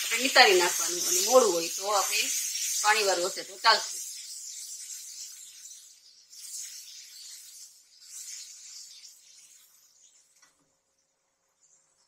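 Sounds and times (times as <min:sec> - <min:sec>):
spatula stirring: 0:00.0 - 0:10.4
masala sizzling in hot oil: 0:00.0 - 0:12.0.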